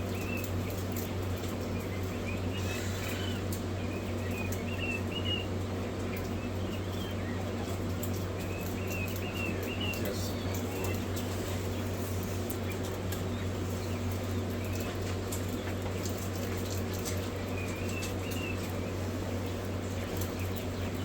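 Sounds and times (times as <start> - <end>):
chicks cheeping: 0.0 - 21.0
steady low hum: 0.0 - 21.0.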